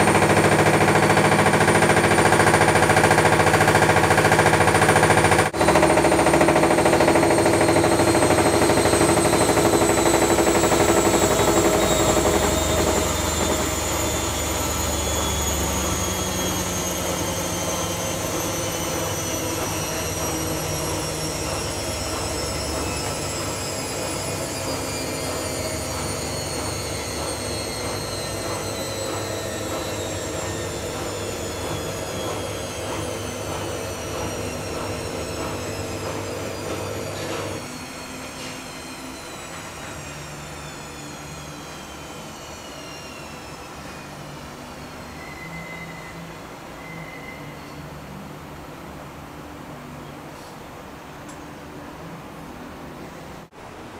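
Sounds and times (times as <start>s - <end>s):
washing machine spin cycle whine: 0.0s - 53.9s.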